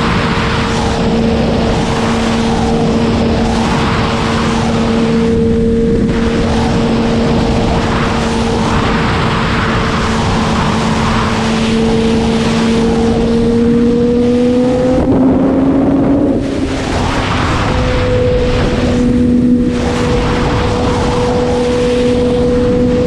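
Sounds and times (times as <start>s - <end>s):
motorcycle engine at high revs: 0.0s - 23.0s
wind noise: 0.0s - 23.0s.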